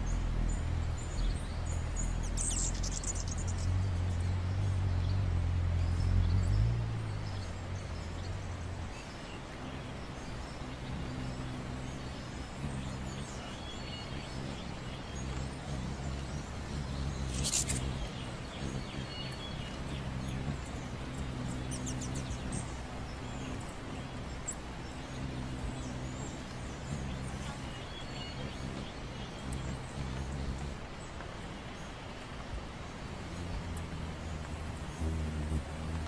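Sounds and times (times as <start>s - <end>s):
bird chirps: 0.0s - 31.0s
hummingbird wing hum: 0.0s - 36.0s.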